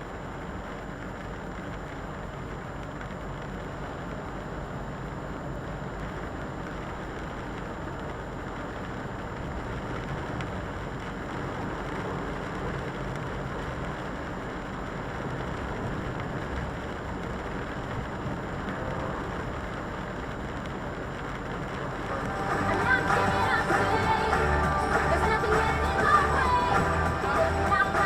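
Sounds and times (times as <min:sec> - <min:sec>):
lorry engine rumble: 0:00.2 - 0:28.0
tyres on wet road: 0:00.2 - 0:28.0.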